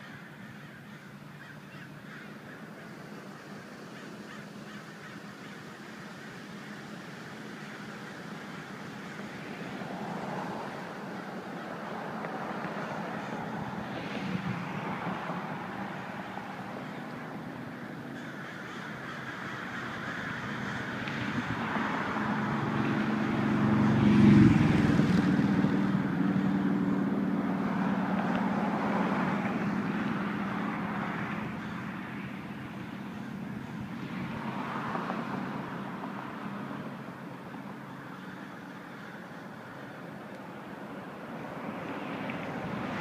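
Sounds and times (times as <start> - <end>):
crows cawing: 0.0 - 24.6, 26.0 - 43.0
vehicle passing: 0.0 - 43.0.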